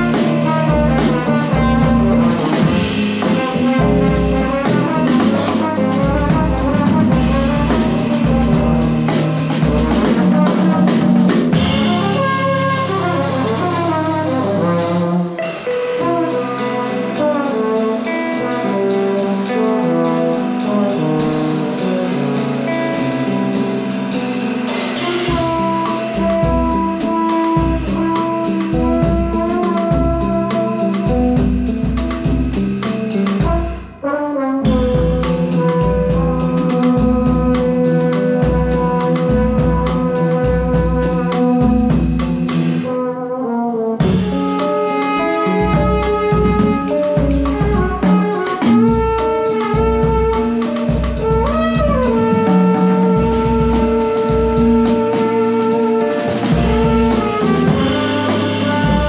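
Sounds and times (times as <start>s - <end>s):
trombone with effects: 0.0s - 23.6s, 24.8s - 32.2s, 33.2s - 59.0s
drums: 0.0s - 59.0s.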